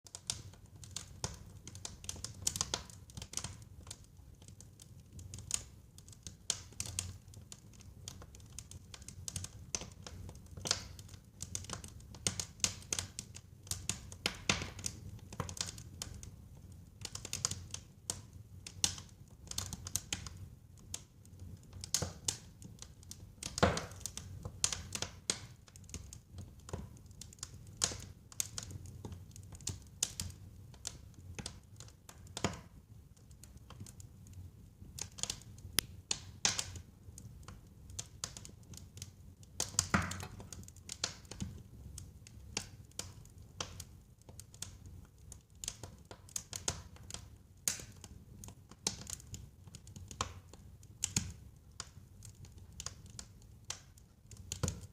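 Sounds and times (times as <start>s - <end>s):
fire crackling and popping: 0.1s - 54.9s.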